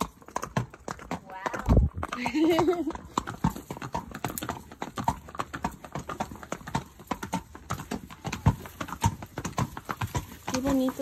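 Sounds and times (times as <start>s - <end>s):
horse hooves on cobblestones: 0.0s - 11.0s.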